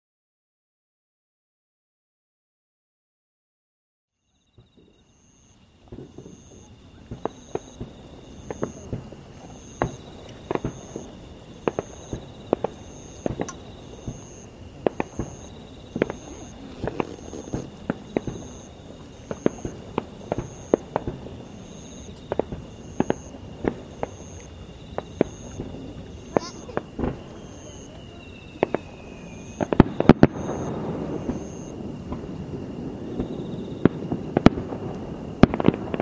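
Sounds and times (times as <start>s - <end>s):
fireworks bursting: 4.6s - 36.0s.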